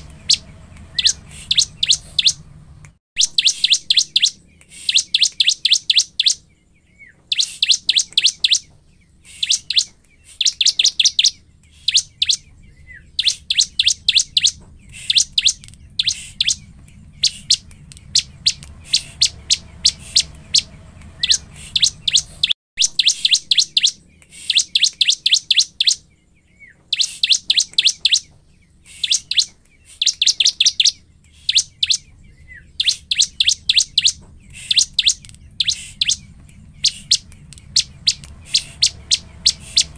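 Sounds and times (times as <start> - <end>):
bird singing sharp high notes: 0.0 - 2.6, 3.2 - 39.9.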